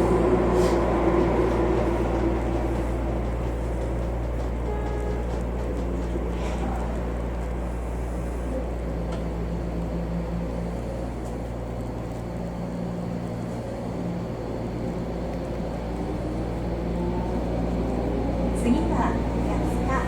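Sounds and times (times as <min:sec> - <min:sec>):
train interior hum and rolling: 0:00.0 - 0:20.0.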